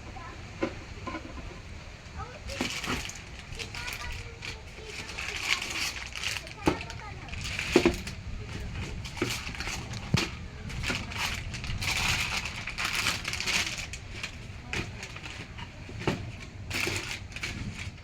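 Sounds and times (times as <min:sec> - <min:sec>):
packaging rustling: 0:02.2 - 0:18.0.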